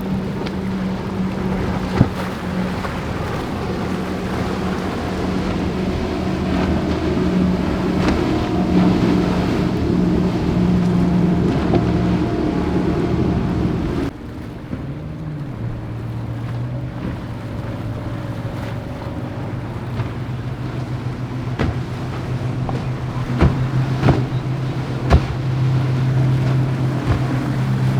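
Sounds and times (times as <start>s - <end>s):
motorboat engines running: 0.0s - 27.9s
quieter low-pitched engine: 0.0s - 27.9s
water noise: 0.0s - 27.9s
wind: 0.0s - 27.9s.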